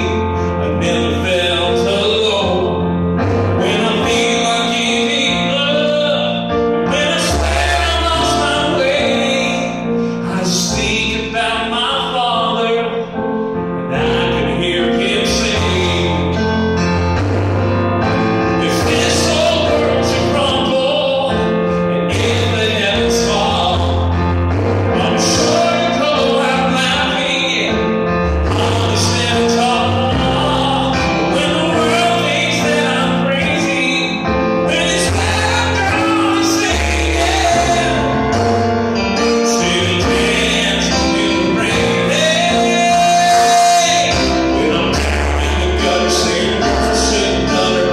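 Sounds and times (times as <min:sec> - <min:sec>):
man singing slow song: 0:00.0 - 0:17.4, 0:18.1 - 0:47.9
electronic keyboard chords: 0:00.0 - 0:47.9.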